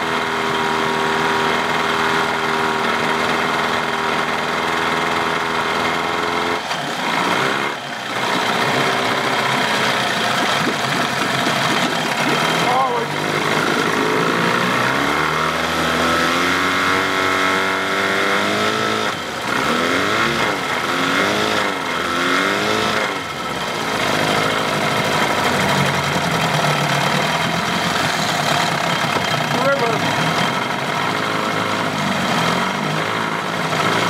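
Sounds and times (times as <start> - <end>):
outboard motor revving: 0.0 - 34.0.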